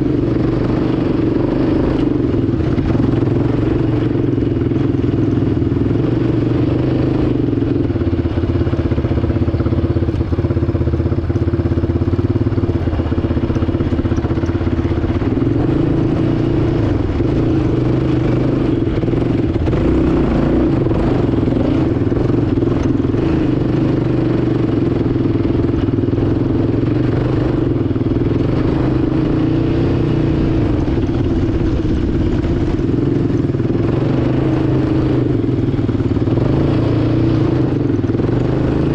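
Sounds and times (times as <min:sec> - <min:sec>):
atv engine climbing under load: 0:00.0 - 0:38.9.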